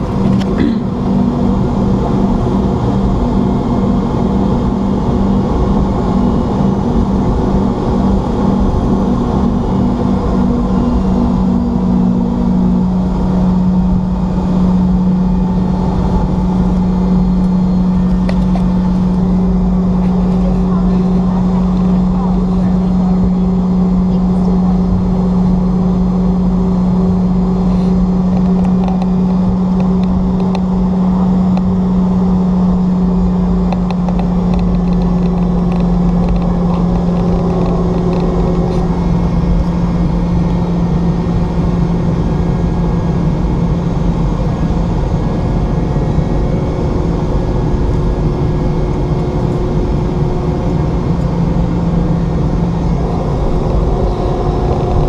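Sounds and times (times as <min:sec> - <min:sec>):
deep rumble: 0:00.0 - 0:55.0
jet engines humming: 0:00.0 - 0:55.0.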